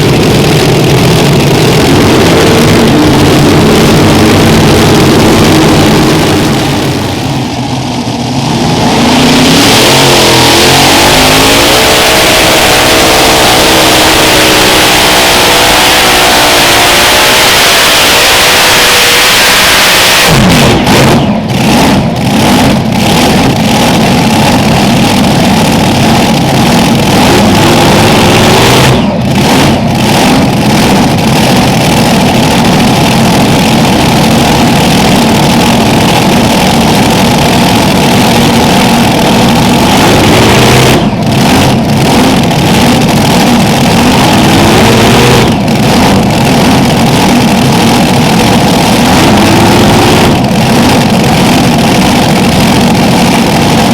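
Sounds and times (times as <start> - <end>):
loud tractor engines running: 0.0 - 53.9.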